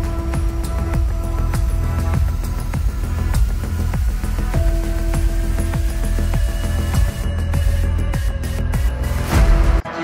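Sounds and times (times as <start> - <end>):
electronic music with booming bass: 0.0 - 10.0.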